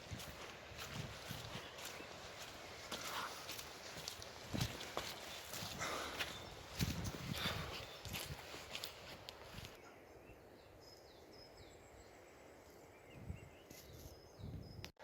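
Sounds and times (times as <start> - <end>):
quiet rural background: 0.0 - 15.0
small bird singing: 0.2 - 9.2, 9.8 - 15.0.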